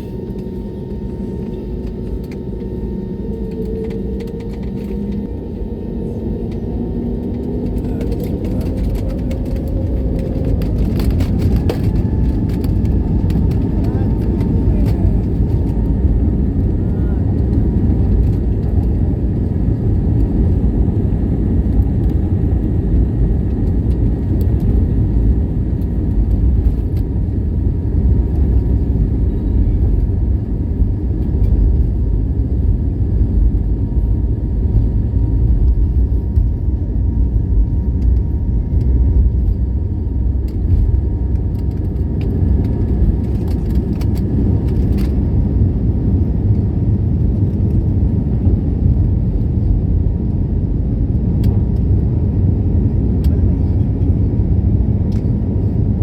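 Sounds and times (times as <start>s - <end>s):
faint steady hums: 0.0s - 49.8s
aircraft engine rumble in cabin: 0.0s - 56.0s.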